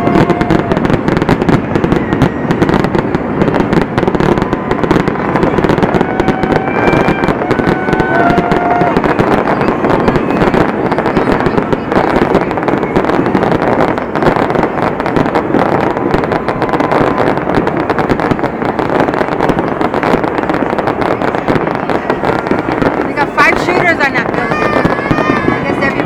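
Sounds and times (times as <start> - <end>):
fireworks pops and crackles: 0.0 - 26.0.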